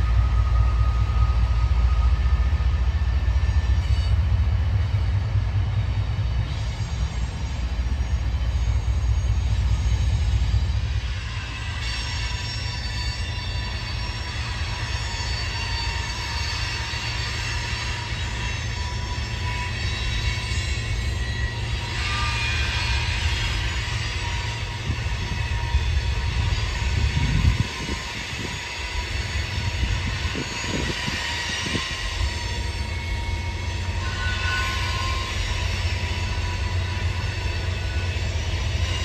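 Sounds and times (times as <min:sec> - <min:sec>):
freight train cars rumbling: 0:00.0 - 0:39.0
high-pitched wheel squeal: 0:06.5 - 0:39.0.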